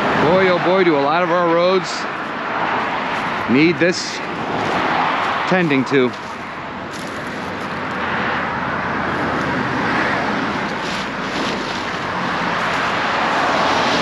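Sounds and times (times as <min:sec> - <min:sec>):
vehicles passing on road: 0:00.0 - 0:14.0.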